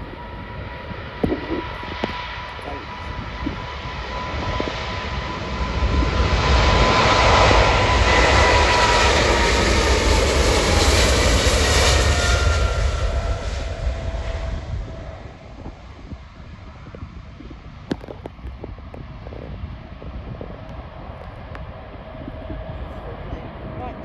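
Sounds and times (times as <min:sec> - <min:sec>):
jet engines passing by: 0:00.0 - 0:24.0.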